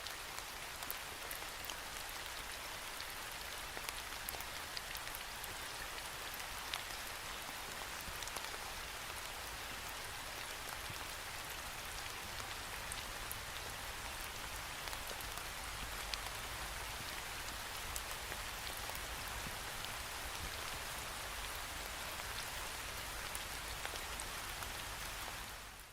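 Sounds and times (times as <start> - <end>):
rain pattering on a window: 0.0 - 25.9.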